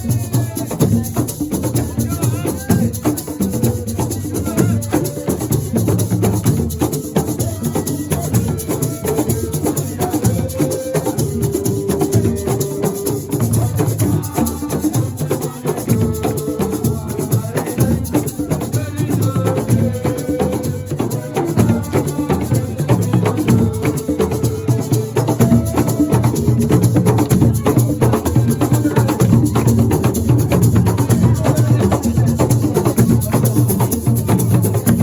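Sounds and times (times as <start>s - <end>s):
drums: 0.0s - 35.0s.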